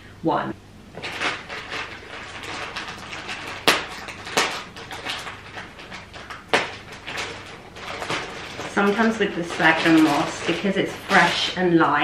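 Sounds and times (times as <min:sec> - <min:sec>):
moss rustling in hands: 0:01.0 - 0:12.0.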